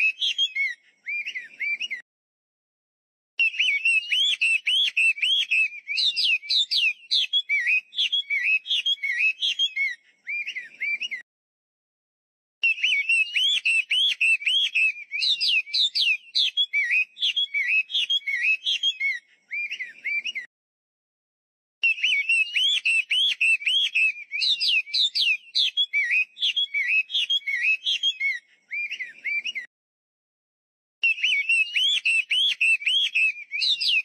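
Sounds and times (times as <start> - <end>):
songbird singing: 0.0 - 2.0, 3.4 - 11.2, 12.6 - 20.5, 21.8 - 29.7, 31.0 - 34.0.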